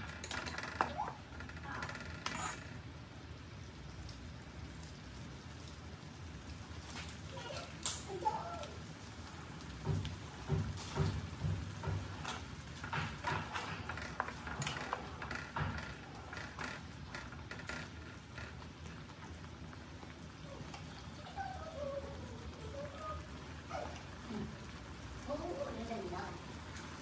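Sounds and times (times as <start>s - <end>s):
sauce simmering and bubbling: 0.0s - 27.0s.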